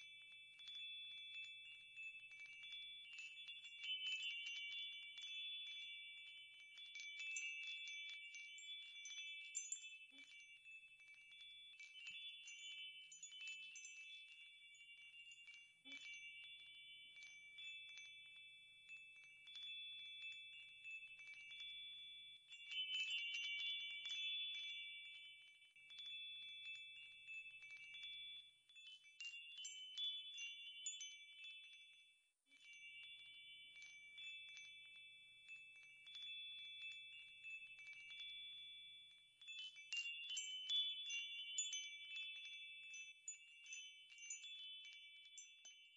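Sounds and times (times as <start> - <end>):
wind chimes tinkling: 0.0 - 45.9.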